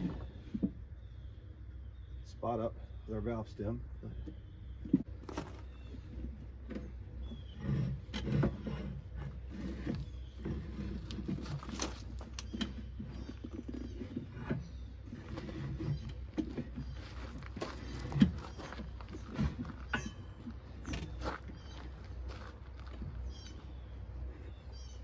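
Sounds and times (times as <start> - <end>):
rubber tire scraping on rim: 4.9 - 25.0.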